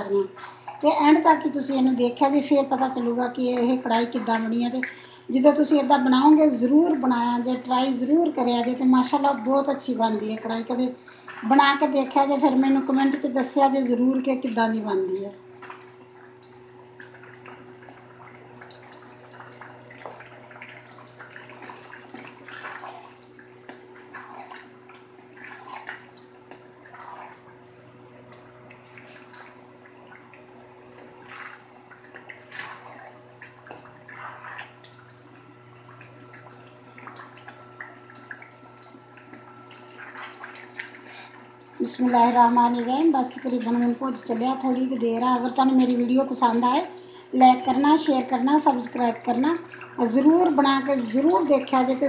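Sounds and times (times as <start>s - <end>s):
curry sizzling and bubbling: 0.0s - 52.0s
steady low hum: 0.0s - 52.0s.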